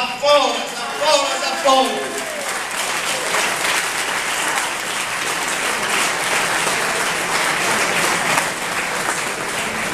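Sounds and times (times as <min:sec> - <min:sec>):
audience applauding: 0:00.7 - 0:09.9.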